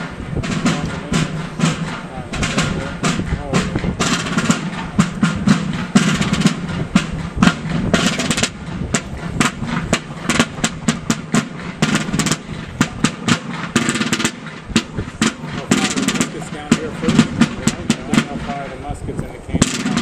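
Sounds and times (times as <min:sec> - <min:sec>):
field drum marching cadence: 0:00.0 - 0:20.0.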